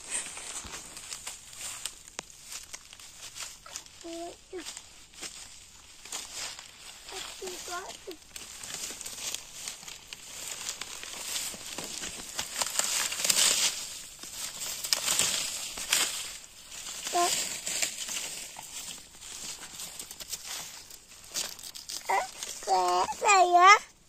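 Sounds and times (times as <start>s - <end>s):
dry leaves rustling and crackling: 0.0s - 24.0s.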